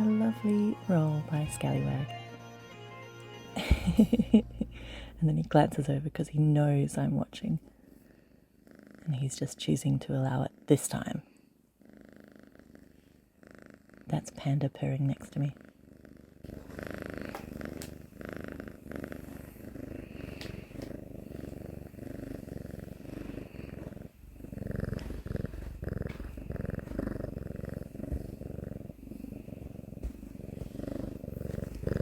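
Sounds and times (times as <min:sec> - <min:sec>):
kitten purring: 0:03.6 - 0:32.0.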